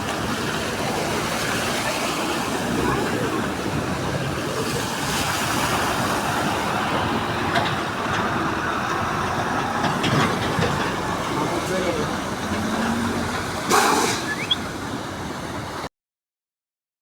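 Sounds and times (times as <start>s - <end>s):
road traffic noise: 0.0s - 15.9s.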